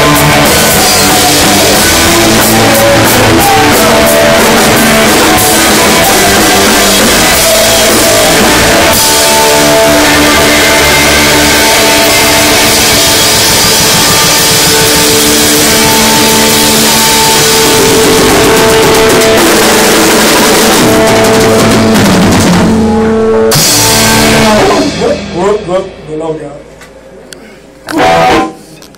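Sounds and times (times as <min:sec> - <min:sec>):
electric guitar: 0:00.0 - 0:25.4, 0:27.9 - 0:28.9
drum kit: 0:00.0 - 0:27.1, 0:27.9 - 0:28.8.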